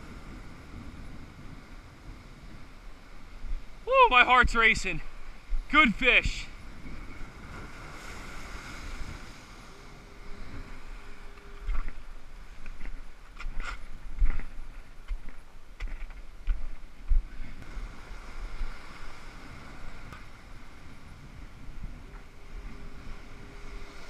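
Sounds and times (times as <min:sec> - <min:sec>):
wind buffeting microphone: 0:00.0 - 0:05.8, 0:06.5 - 0:24.0
surf washing over rocks: 0:00.0 - 0:13.2, 0:17.6 - 0:24.0.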